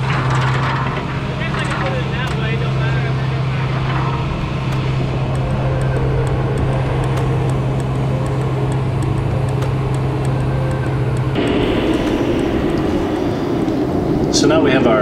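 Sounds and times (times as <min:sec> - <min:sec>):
diesel engine running: 0:00.0 - 0:15.0
faint regular ticking: 0:00.0 - 0:15.0
higher-pitched machine noise: 0:00.0 - 0:15.0.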